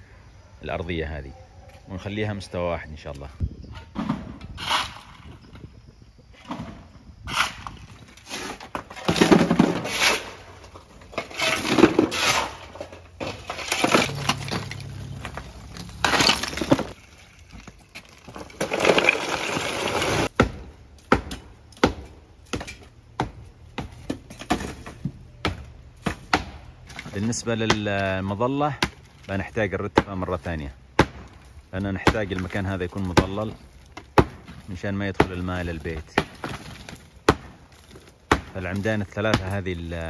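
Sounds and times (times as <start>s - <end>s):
concrete rubble shoveled and dumped: 3.5s - 5.6s, 6.4s - 20.4s, 23.8s - 40.0s.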